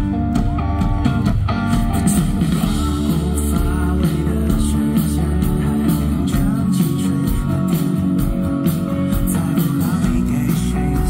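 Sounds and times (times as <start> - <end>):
bass: 0.0 - 11.0
drums: 0.0 - 11.0
electric guitar: 0.0 - 11.0
person singing: 1.7 - 11.0.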